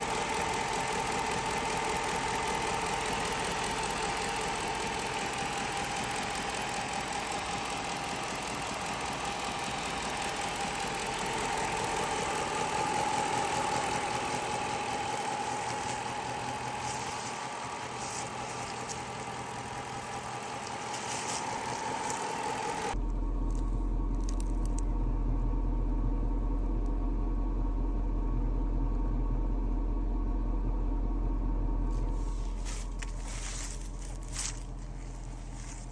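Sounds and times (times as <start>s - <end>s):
car engine running: 0.0s - 35.9s
constant whine: 0.0s - 35.9s
steady low hum: 0.0s - 35.9s.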